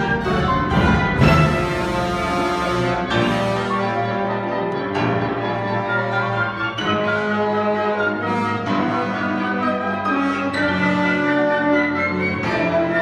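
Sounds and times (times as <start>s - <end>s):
grand piano playing: 0.0s - 13.0s
string orchestra: 0.0s - 13.0s.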